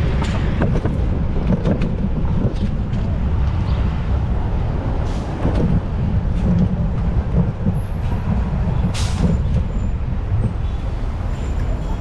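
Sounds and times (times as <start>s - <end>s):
tyres on road: 0.0s - 12.0s
wind rumble on microphone: 0.0s - 12.0s.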